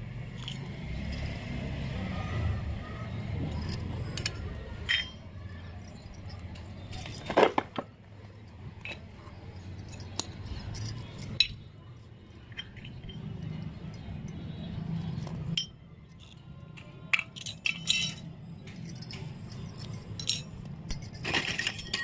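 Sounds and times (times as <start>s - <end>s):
metal utensils clinking on concrete: 0.3s - 1.9s, 2.6s - 22.0s.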